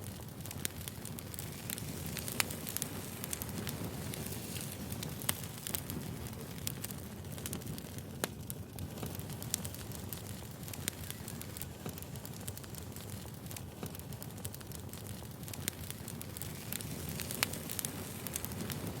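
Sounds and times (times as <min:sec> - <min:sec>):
bonfire crackling: 0:00.0 - 0:19.0.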